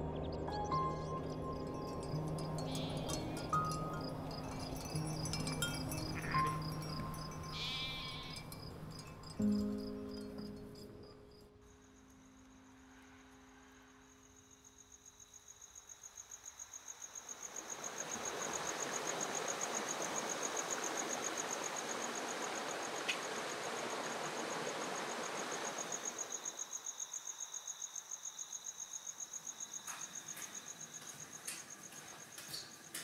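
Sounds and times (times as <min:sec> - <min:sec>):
cricket chirping: 0:00.0 - 0:33.0.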